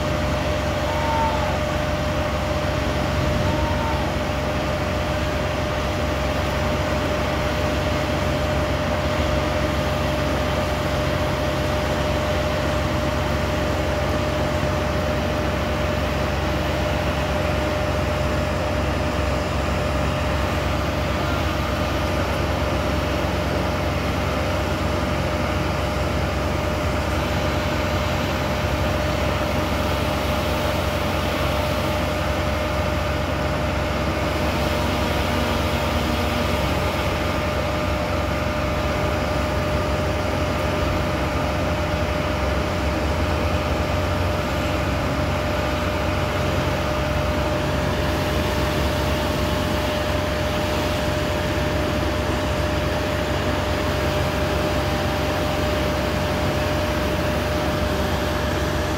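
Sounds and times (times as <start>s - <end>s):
steady whine: 0.0s - 58.9s
wood chipper and truck engine: 0.0s - 58.9s.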